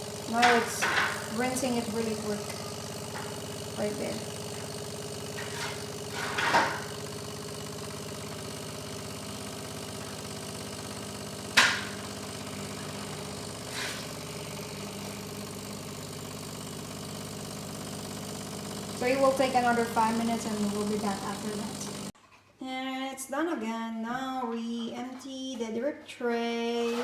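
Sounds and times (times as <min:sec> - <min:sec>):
coffee machine pump humming: 0:00.0 - 0:22.2.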